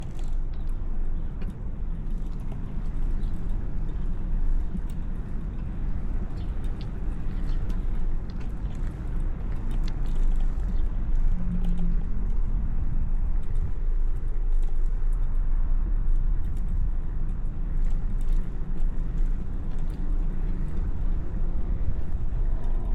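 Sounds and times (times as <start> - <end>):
small clicks and rattles: 0.0 - 22.9
wind and road noise: 0.0 - 22.9.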